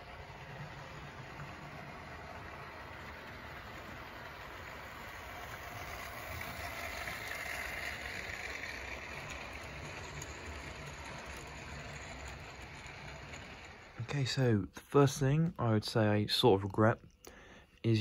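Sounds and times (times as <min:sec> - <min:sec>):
model train whirring rattle: 0:00.0 - 0:18.0.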